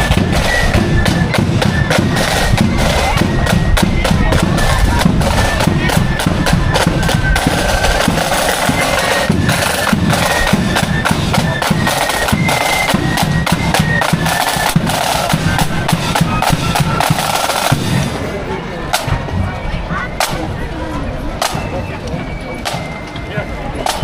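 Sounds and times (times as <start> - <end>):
snare and bass drums: 0.0 - 19.4, 21.4 - 21.8, 22.6 - 23.1
marching band melody: 0.0 - 24.0.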